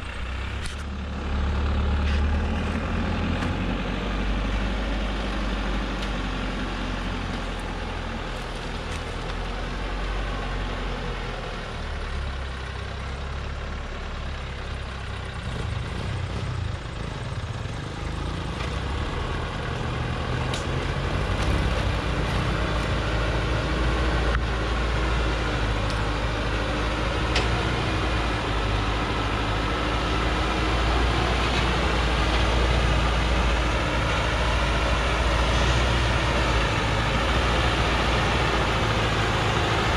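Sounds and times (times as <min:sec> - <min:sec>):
truck engine labouring: 0:00.0 - 0:39.9.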